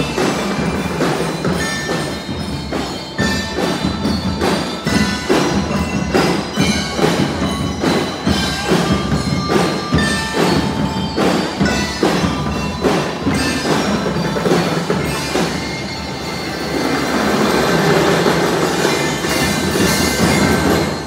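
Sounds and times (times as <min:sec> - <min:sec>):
bell lyres ringing a melody: 0:00.0 - 0:21.0
marching drums beating: 0:00.0 - 0:21.0.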